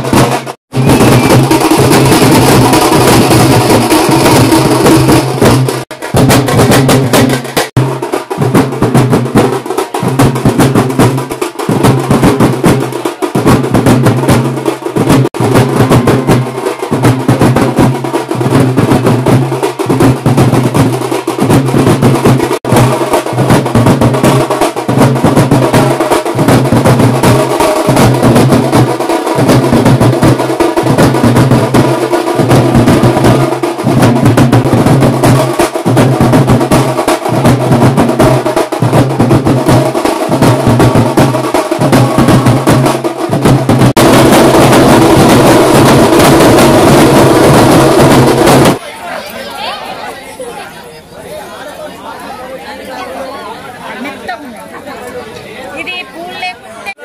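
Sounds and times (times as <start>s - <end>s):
band of drummers beating drums: 0.0s - 48.8s.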